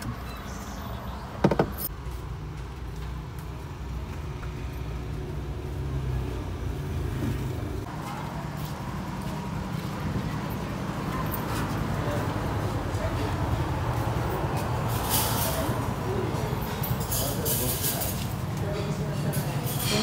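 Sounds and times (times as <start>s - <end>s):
outdoor street hiss: 0.0s - 20.0s.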